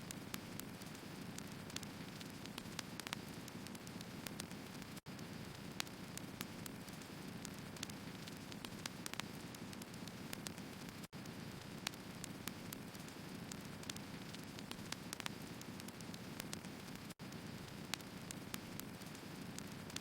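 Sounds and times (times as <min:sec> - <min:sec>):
firewood crackling and popping: 0:00.2 - 0:20.0.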